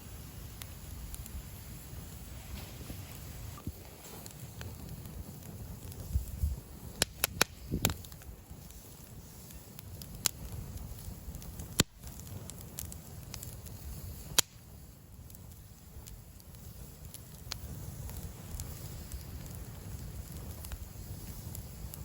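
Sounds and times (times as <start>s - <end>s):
campfire crackling: 0.0s - 22.0s
fire pops: 0.0s - 22.0s.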